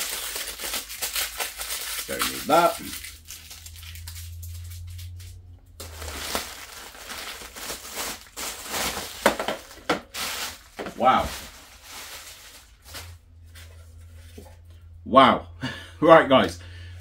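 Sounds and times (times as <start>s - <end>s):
bubble wrap crinkling: 0.0s - 13.7s
low hum: 2.8s - 17.0s.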